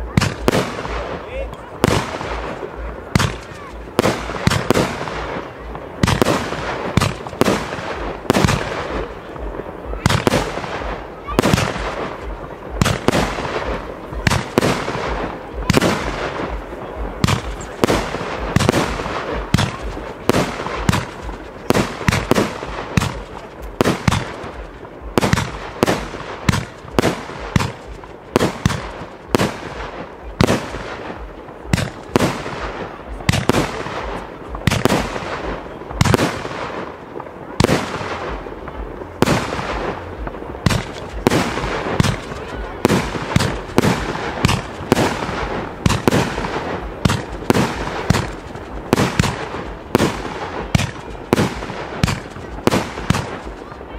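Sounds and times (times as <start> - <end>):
firework bangs: 0.0 - 53.9
firework crackling: 0.0 - 53.9.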